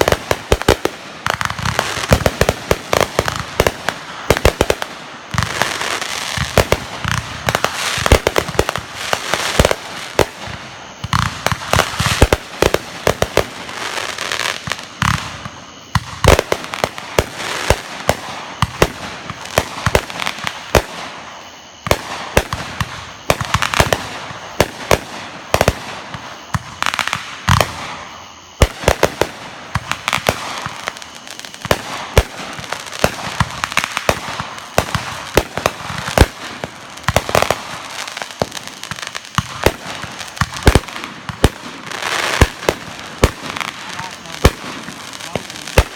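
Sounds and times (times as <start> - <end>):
fireworks cracking and banging: 0.0 - 45.9
fireworks crackling: 0.0 - 45.9.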